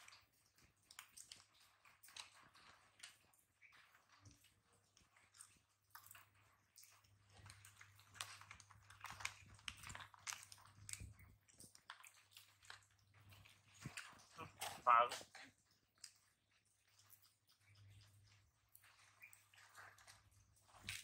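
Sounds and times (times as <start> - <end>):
monkey crunching popcorn: 0.0 - 21.0.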